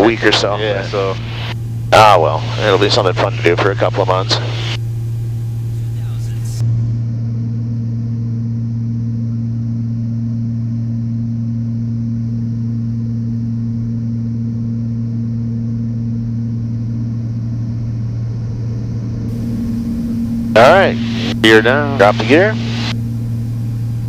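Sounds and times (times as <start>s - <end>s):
piston aircraft engines droning: 0.0s - 24.0s.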